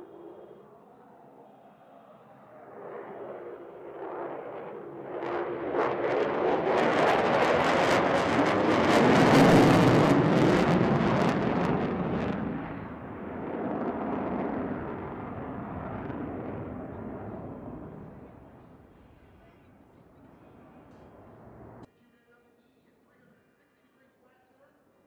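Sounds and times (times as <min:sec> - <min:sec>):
jet flying overhead crackling: 0:00.0 - 0:21.9.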